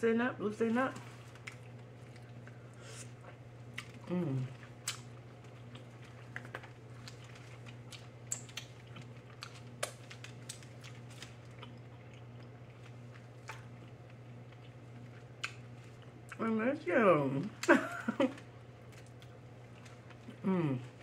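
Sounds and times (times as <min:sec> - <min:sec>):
steady low hum: 0:00.0 - 0:21.0
close-up chewing: 0:01.0 - 0:16.4, 0:18.8 - 0:21.0.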